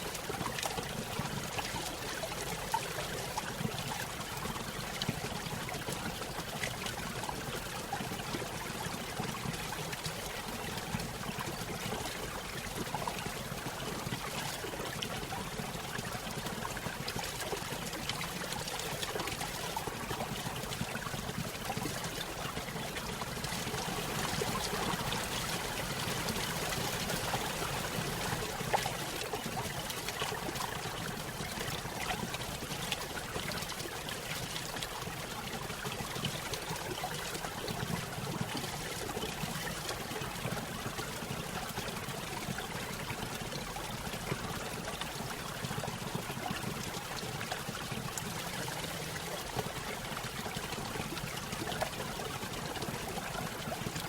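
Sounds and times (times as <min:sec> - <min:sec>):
stream over small waterfall: 0:00.0 - 0:54.0.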